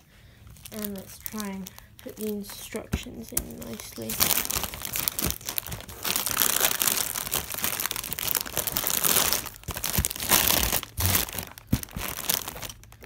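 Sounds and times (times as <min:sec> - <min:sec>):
plastic bags crinkling: 0:00.3 - 0:13.0.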